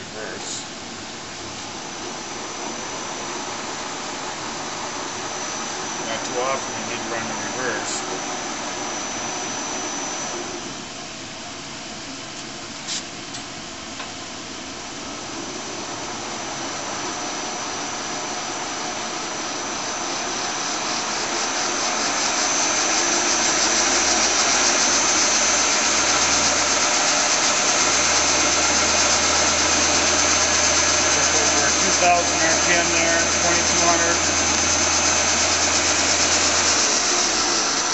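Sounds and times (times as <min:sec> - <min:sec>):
lathe spindle whine and gear noise: 0:00.0 - 0:37.9.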